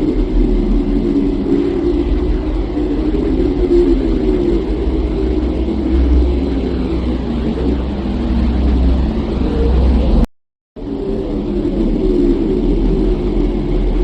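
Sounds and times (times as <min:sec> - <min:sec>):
deep rumbling drone: 0:00.0 - 0:14.0
dense hum: 0:00.0 - 0:14.0.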